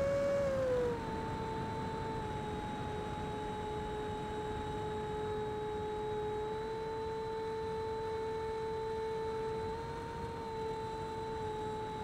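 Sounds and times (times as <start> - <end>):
electric fan whine: 0.0 - 12.0.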